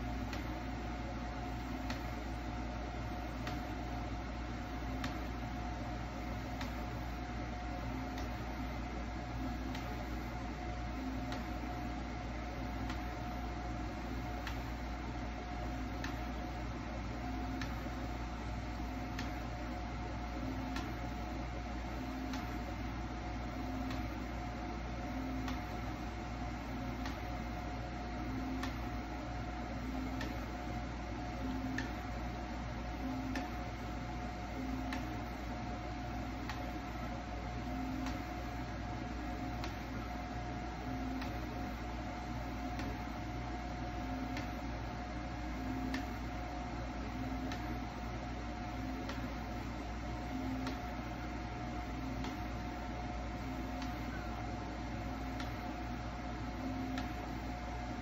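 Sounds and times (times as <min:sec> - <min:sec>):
faint constant tone: 0:00.0 - 0:58.0
fan hum: 0:00.0 - 0:58.0.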